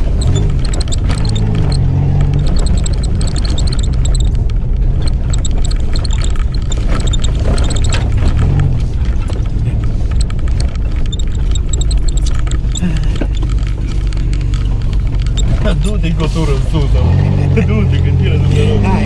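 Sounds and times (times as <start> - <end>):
car body knocks and rattles: 0.0 - 16.1
engine running under load: 0.0 - 19.0.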